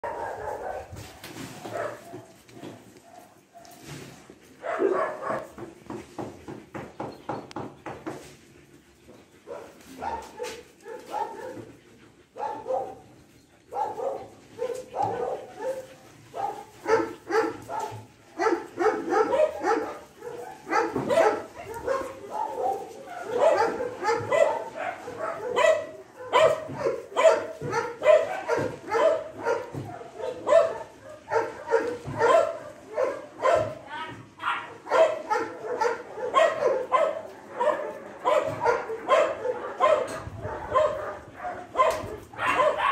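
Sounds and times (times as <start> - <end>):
dogs barking and yipping: 0.0 - 42.9.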